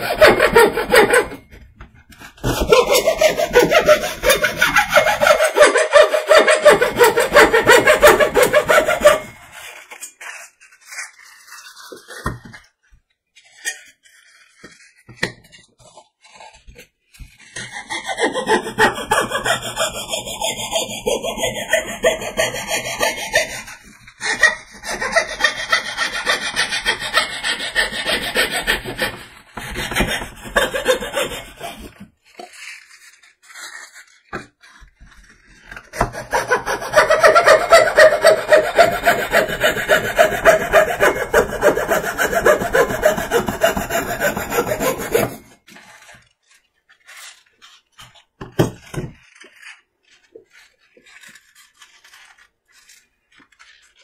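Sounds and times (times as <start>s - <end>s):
hacksaw sawing: 0.0s - 12.7s, 13.4s - 54.0s.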